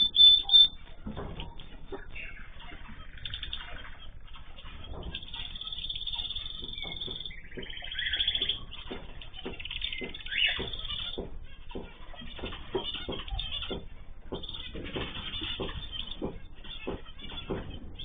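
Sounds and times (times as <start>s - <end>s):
cage birds chirping and trilling: 0.0s - 18.0s.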